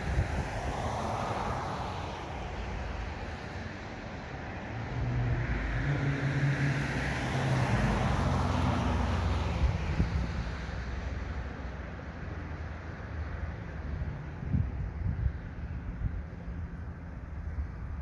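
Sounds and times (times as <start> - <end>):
vehicle passing with tyre noise: 0.0 - 18.0.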